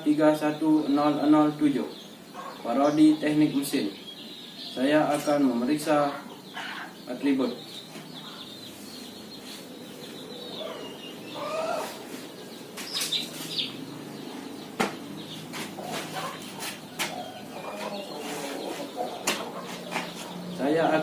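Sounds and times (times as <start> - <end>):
birds chirping: 0.0 - 21.0
chickens clucking: 0.0 - 21.0.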